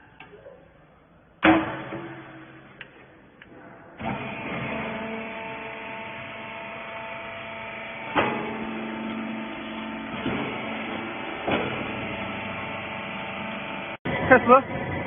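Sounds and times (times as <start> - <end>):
hydraulic baler humming: 1.4 - 15.0.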